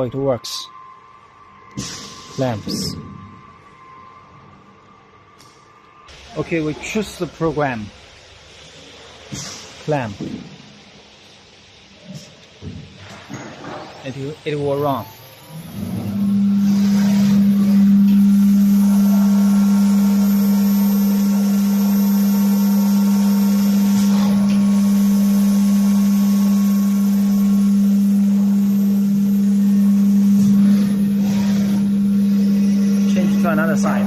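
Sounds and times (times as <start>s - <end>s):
machine spindle humming: 0.0s - 9.2s, 14.0s - 34.0s.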